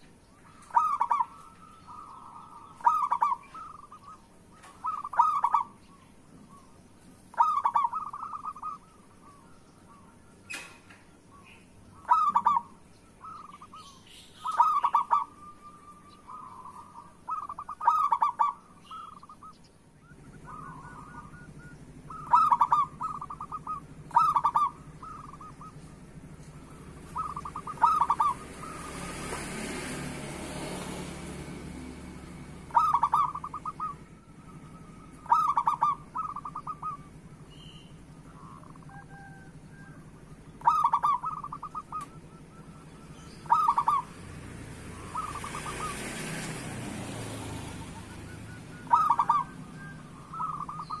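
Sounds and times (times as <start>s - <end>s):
dove cooing: 0.0s - 5.9s, 7.3s - 10.7s, 11.3s - 51.0s.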